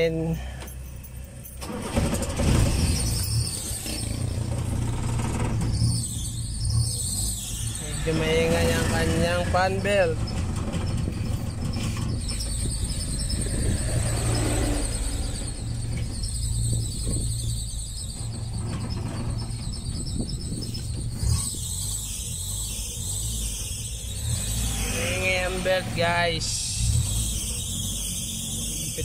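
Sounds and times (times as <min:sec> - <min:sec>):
car engine idling: 0:00.0 - 0:29.0
fan belt squealing: 0:00.0 - 0:29.0.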